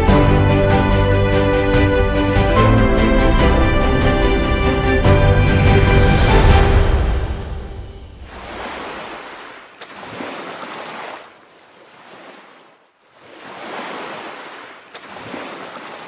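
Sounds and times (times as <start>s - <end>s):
rushing water whoosh: 0.0s - 16.0s.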